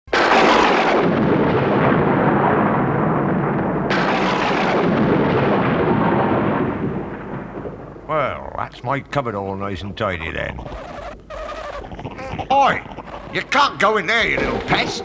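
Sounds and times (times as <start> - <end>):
thunder rumbling and cracking: 0.1 - 15.0.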